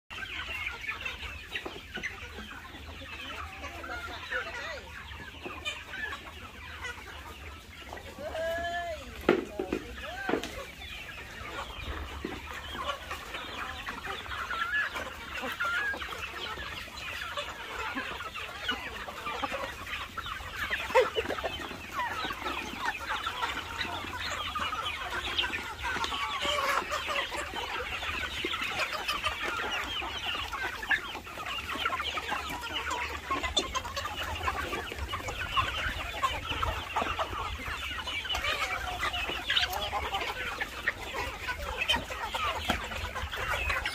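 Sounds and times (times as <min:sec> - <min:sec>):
chickens clucking: 0:00.1 - 0:43.9.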